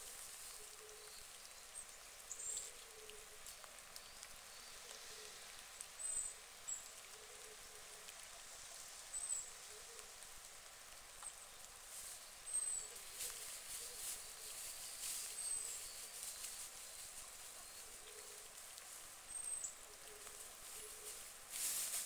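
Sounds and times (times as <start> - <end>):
ducks splashing and rustling: 0.0 - 22.0.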